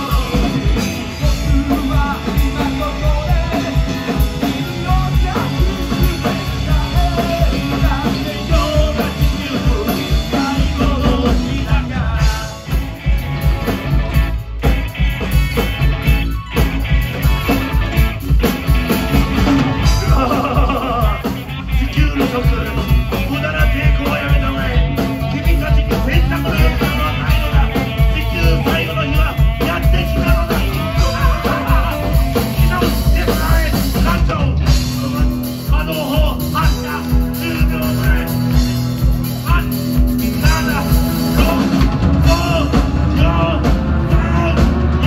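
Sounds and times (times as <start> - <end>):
person singing into microphone: 0.0 - 12.9, 19.7 - 38.7, 39.4 - 45.0
live rock band playing: 0.0 - 45.0.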